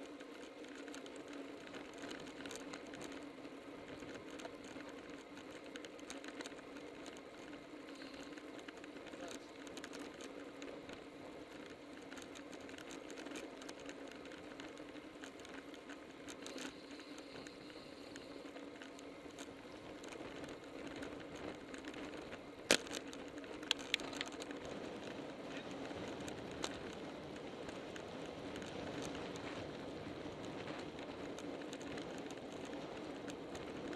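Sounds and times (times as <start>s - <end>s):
road and wind noise: 0.0s - 33.9s.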